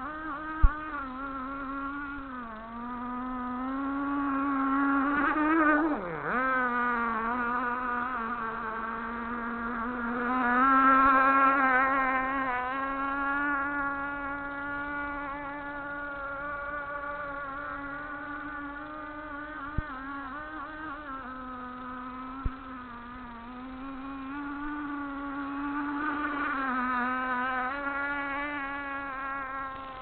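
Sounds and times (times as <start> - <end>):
model boat engine buzzing: 0.0 - 30.0.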